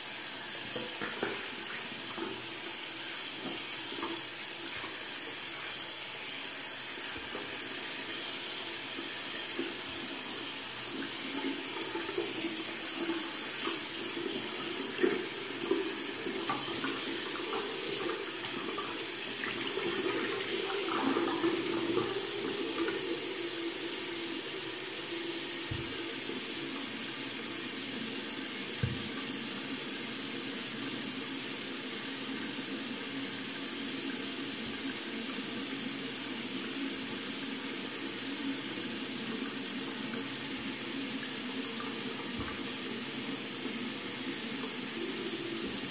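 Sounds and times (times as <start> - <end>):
faucet running into sink: 0.0 - 45.9.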